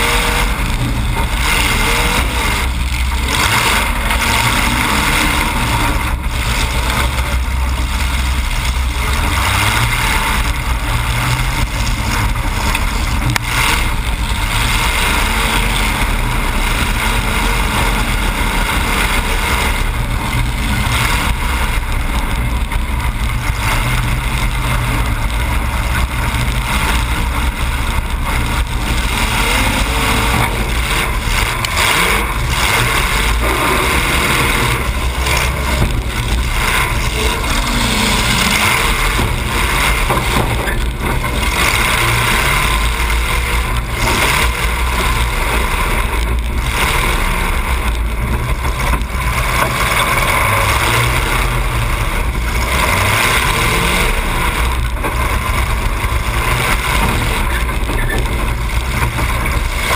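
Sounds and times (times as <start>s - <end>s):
loud car engine open exhaust: 0.0s - 59.9s.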